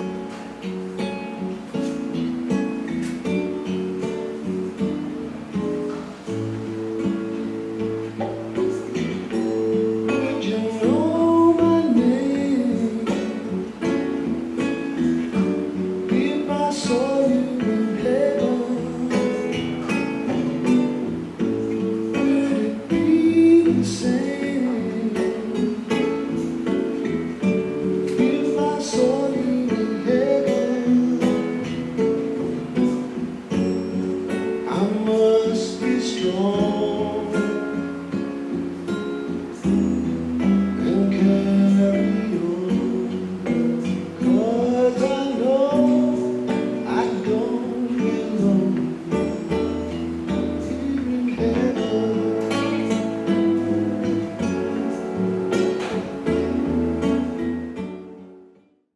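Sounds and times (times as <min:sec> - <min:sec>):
acoustic guitar song with singing: 0:00.0 - 0:58.9.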